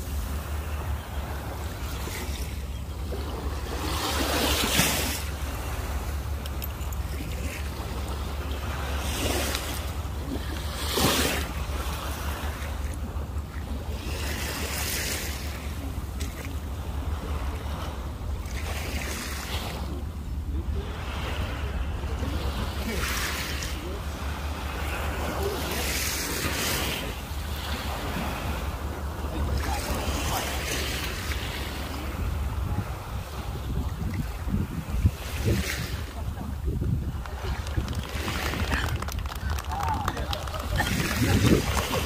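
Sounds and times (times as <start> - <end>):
sea waves lapping: 0.0 - 42.0
wind rumbling on microphone: 0.0 - 42.0.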